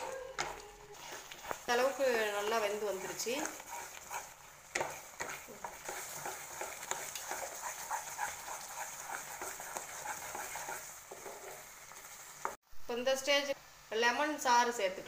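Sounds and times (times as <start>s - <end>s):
wooden spatula scraping a pan: 0.0s - 12.6s
faint steady hiss: 0.0s - 15.0s.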